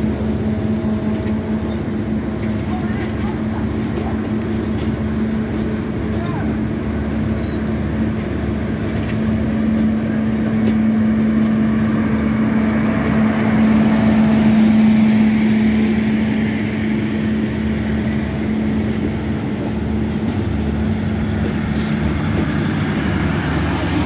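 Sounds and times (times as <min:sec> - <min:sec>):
train rolling past: 0:00.0 - 0:24.0.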